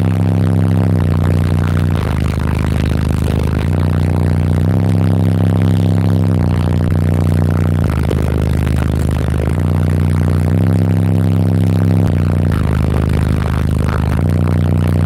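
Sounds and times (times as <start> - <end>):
deep bass notes from car speakers: 0.0 - 15.0.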